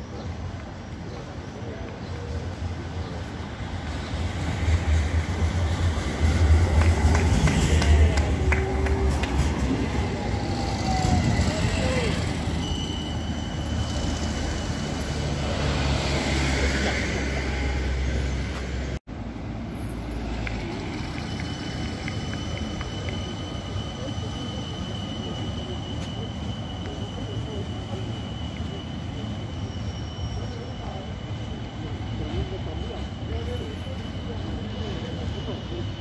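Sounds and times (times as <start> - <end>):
tram rumbling past: 0.0 - 36.0.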